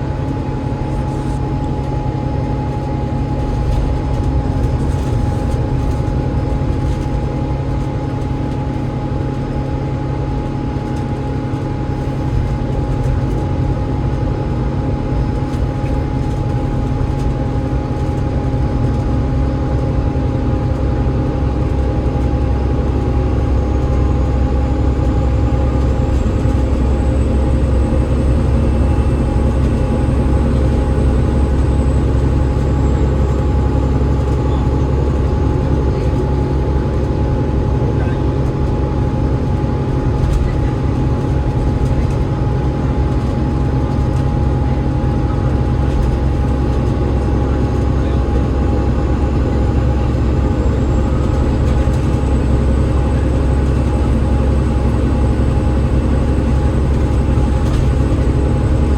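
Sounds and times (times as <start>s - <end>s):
bus engine and road rumble: 0.0s - 58.9s
steady whine: 10.4s - 58.9s.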